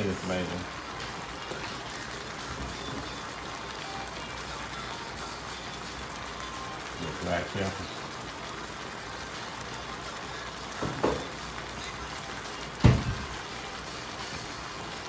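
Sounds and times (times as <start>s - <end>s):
chicken sizzling in sauce: 0.0s - 15.0s.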